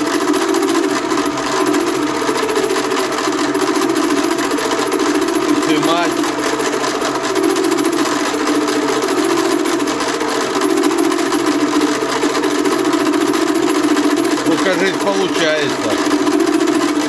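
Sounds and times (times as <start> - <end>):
machine hum: 0.0 - 17.0
milling cutter chattering on metal: 0.0 - 17.0.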